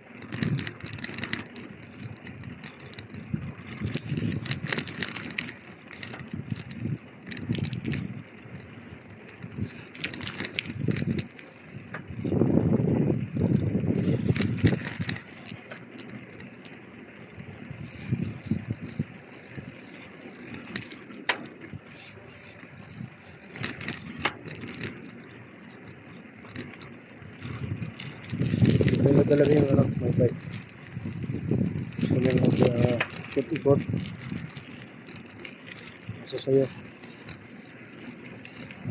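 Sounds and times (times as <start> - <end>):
bicycle rattling and clicking: 0.0 - 38.9
bicycle rumble: 0.0 - 38.9.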